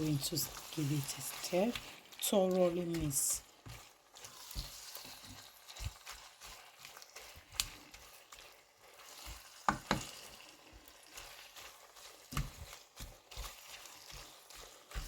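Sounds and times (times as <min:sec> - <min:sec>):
meat and onions sizzling: 0:00.0 - 0:15.0.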